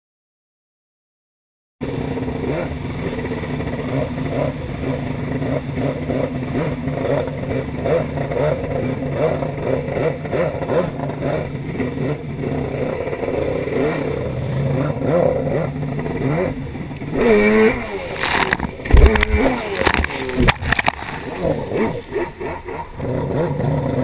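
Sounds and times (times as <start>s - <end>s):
jet ski engine running hard: 1.8s - 24.0s.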